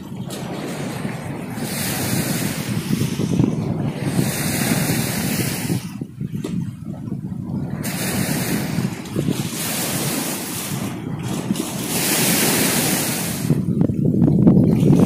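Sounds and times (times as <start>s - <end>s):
sea waves: 0.0s - 15.0s
wind rumbling on microphone: 0.0s - 15.0s.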